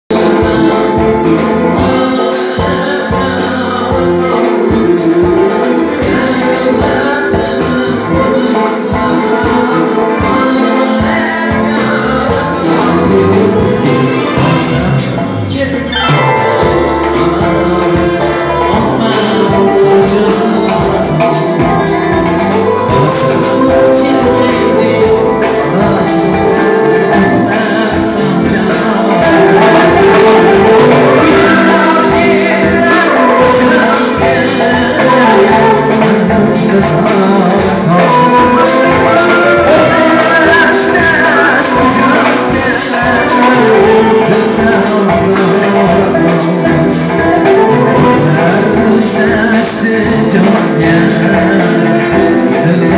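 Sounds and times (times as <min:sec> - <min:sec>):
man singing into a microphone: 0:00.0 - 0:52.9
frame drum beat: 0:00.1 - 0:52.9.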